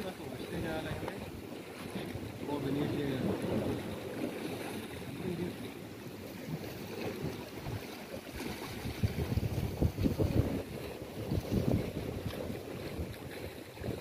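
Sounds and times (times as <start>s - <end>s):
sea washing against rocks: 0.0s - 14.0s
wind buffeting microphone: 0.0s - 14.0s.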